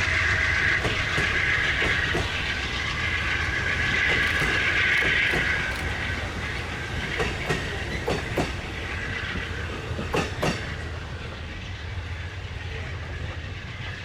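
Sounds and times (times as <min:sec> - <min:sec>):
train wheels clacking over rail joints: 0:00.0 - 0:12.1
train rumble: 0:00.0 - 0:14.0.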